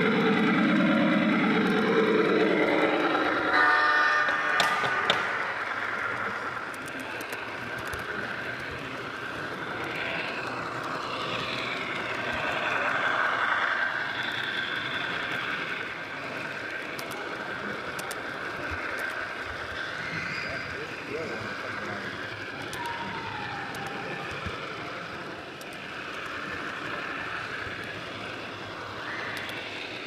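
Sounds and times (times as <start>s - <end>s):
model train whirring: 0.0s - 30.0s.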